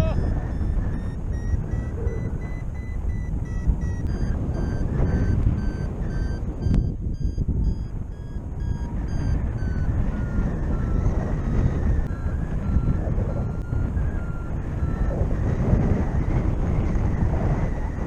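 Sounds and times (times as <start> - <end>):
variometer short beeps: 0.0 - 18.0
wind rushing over microphone: 0.0 - 18.0.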